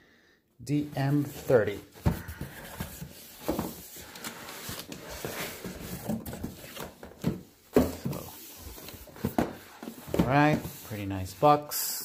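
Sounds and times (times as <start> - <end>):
cardboard boxes rubbing and scraping: 1.0 - 11.7.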